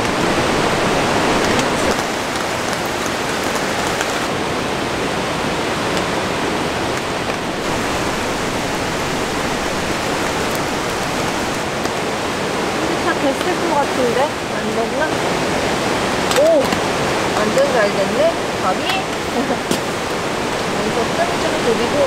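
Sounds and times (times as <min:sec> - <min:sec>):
rain falling: 0:00.0 - 0:22.0
stream rushing: 0:00.0 - 0:22.0.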